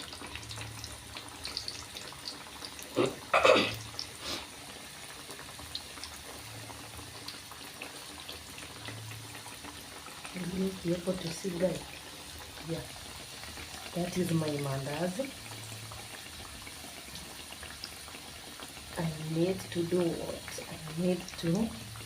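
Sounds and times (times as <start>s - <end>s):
dough sizzling in hot oil: 0.0s - 22.0s.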